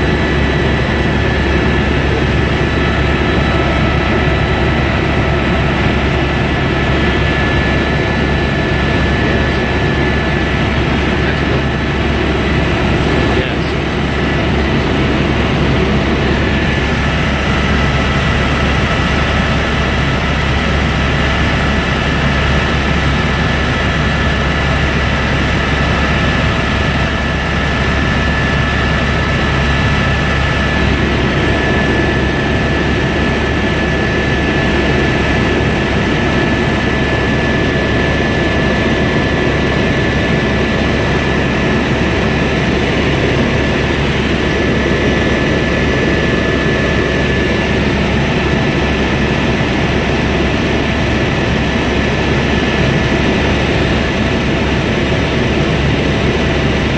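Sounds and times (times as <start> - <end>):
helicopter rotor and engine drone: 0.0 - 56.9
high whine: 0.0 - 56.9.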